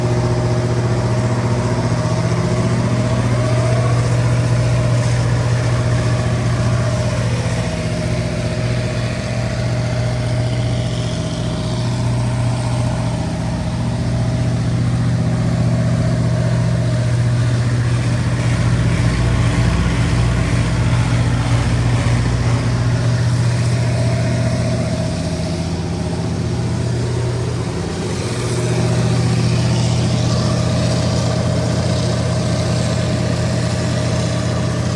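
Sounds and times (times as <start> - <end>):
generator diesel engine humming: 0.0 - 34.9.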